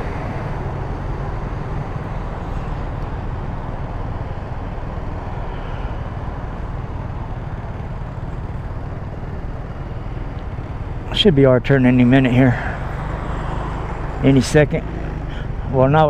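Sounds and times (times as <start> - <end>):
road traffic noise: 0.0 - 16.0
scooter engine idling: 0.0 - 16.0.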